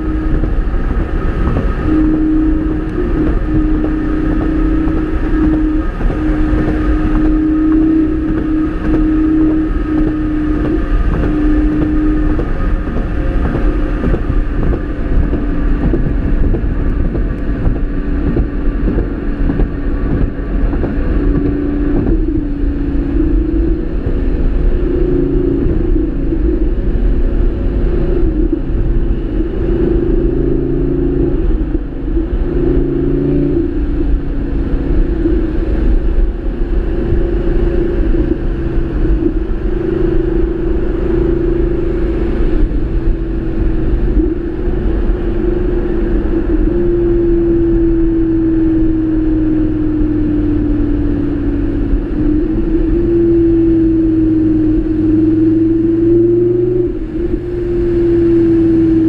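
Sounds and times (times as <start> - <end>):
low wind rumble: 0.0 - 59.0
sports car engine running: 0.0 - 59.0.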